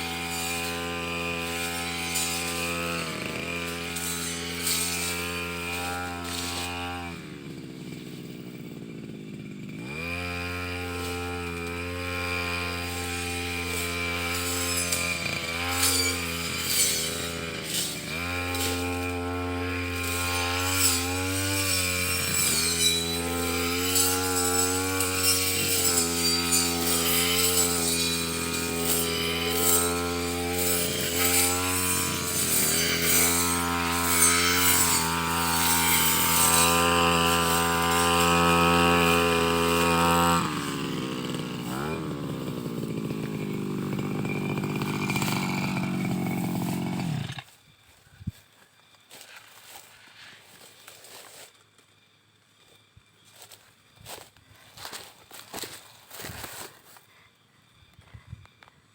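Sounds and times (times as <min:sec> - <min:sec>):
brush cutter engine: 0:00.0 - 0:47.8, 0:49.0 - 0:52.1, 0:52.7 - 0:57.1.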